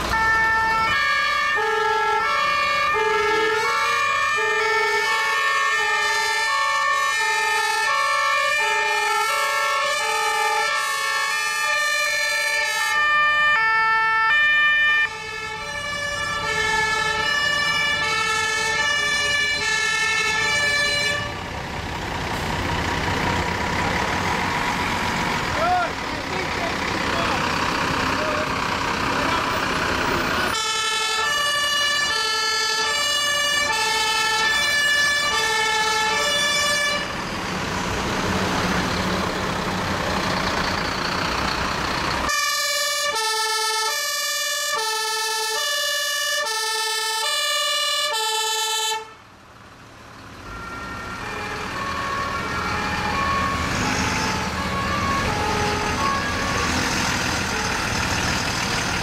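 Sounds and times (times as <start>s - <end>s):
diesel truck engines rumbling: 0.0s - 59.0s
fire engine two-tone sirens: 0.0s - 59.0s.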